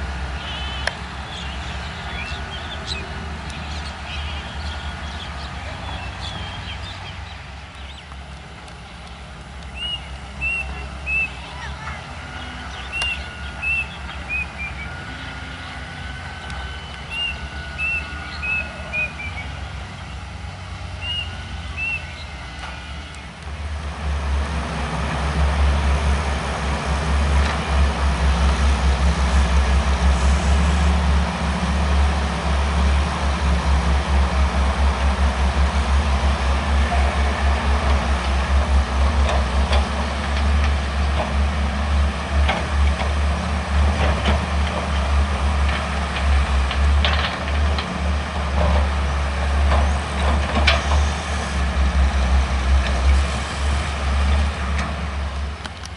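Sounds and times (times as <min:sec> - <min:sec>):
diesel engine throbbing: 0:00.0 - 0:55.9
distant excavator engines humming: 0:00.0 - 0:55.9.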